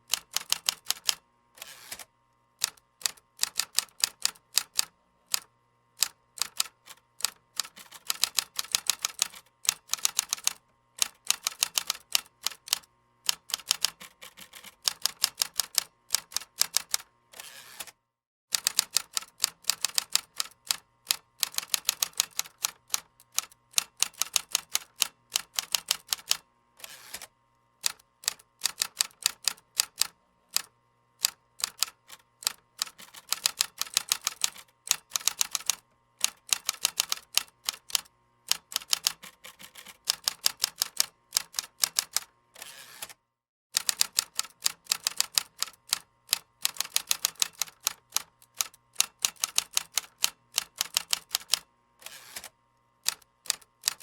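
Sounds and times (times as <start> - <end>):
keyboard typing: 0.1 - 1.2, 2.6 - 17.1, 18.5 - 26.4, 27.8 - 42.3, 43.8 - 51.6, 52.4 - 54.0.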